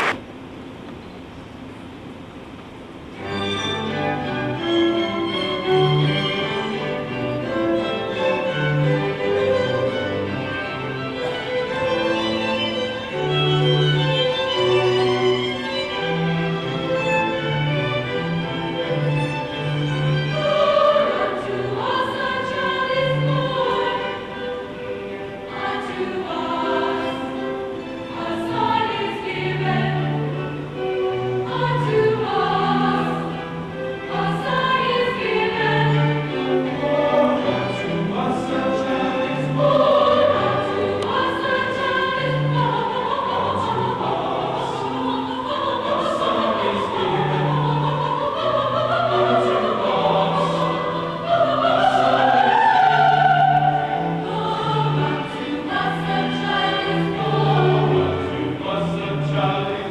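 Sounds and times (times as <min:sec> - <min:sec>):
orchestral accompaniment: 0:03.2 - 0:59.9
voices singing held notes: 0:04.0 - 0:59.9.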